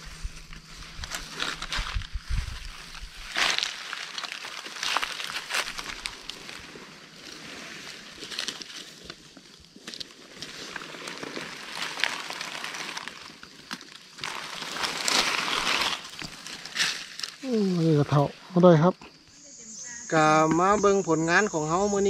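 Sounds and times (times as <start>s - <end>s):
dry leaves rustling: 0.0s - 18.3s.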